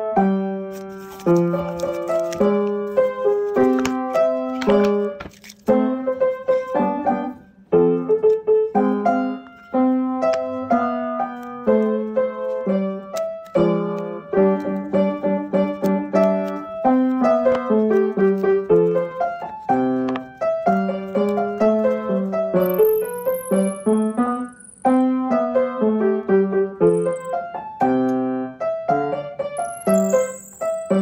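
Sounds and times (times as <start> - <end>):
light piano tune: 0.0 - 31.0.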